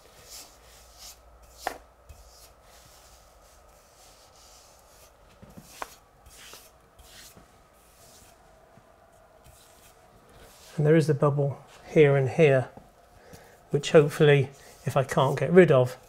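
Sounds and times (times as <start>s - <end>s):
brush rubbing over wallpaper: 0.0s - 11.9s, 13.8s - 16.0s.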